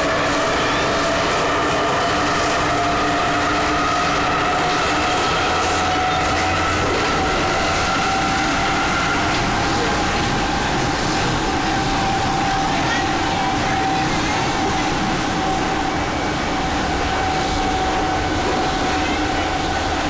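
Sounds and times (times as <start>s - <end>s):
rising train motor whine: 0.0s - 20.0s
train wheels rumbling on rail: 0.0s - 20.0s.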